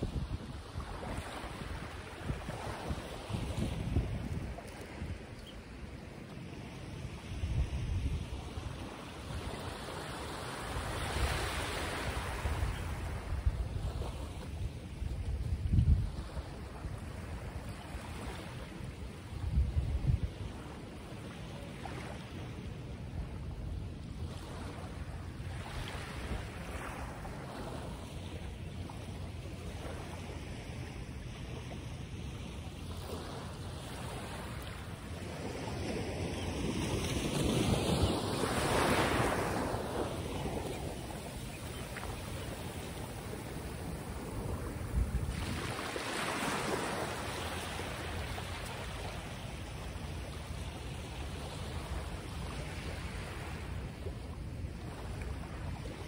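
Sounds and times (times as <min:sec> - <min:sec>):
wind on microphone: 0:00.0 - 0:06.0, 0:06.9 - 0:09.7, 0:10.6 - 0:32.0, 0:32.8 - 0:56.0.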